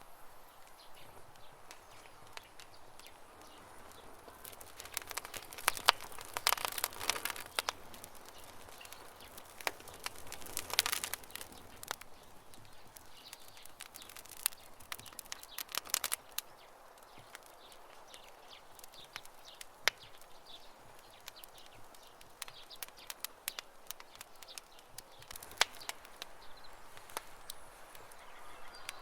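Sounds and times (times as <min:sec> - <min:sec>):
campfire crackling: 0:00.0 - 0:29.0
faint birds chirping: 0:00.0 - 0:29.0.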